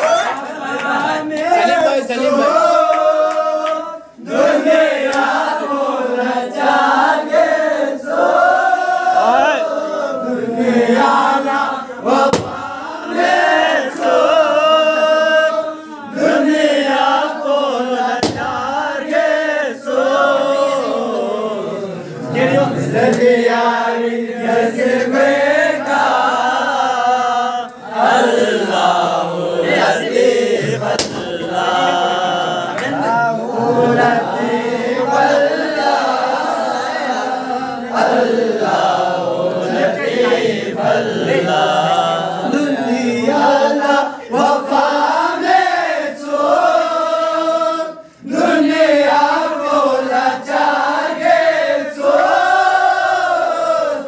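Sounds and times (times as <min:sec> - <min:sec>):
men chanting in unison: 0:00.0 - 0:54.0.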